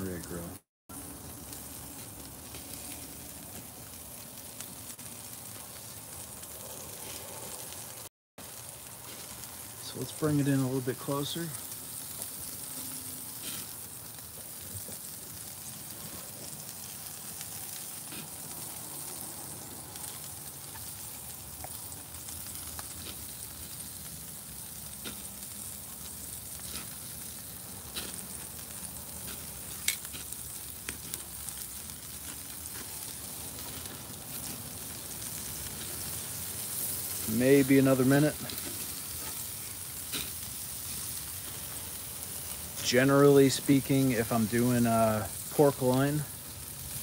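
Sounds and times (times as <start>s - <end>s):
fat crackling and popping: 0.0s - 47.0s
meat sizzling on grill: 0.0s - 47.0s.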